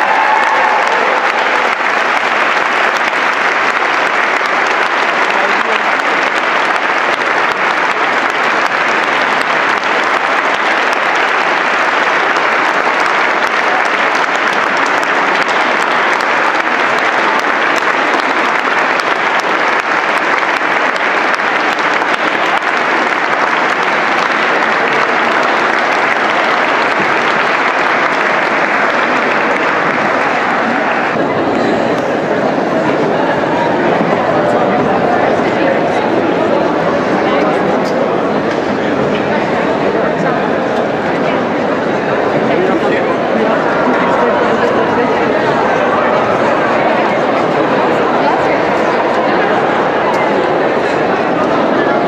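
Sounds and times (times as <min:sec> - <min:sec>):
audience applauding: 0:00.0 - 0:52.0.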